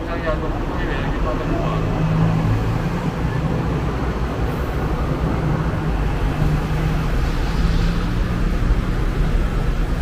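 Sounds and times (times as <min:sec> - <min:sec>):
tram rumbling: 0:00.0 - 0:10.0.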